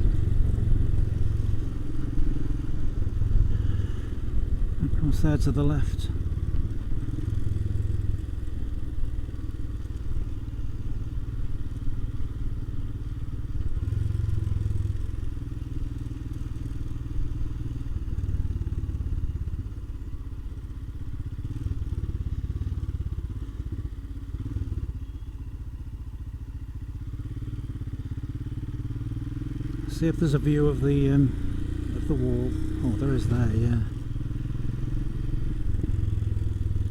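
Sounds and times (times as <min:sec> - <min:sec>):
motorcycle engine running: 0:00.0 - 0:36.9
road noise: 0:00.0 - 0:36.9.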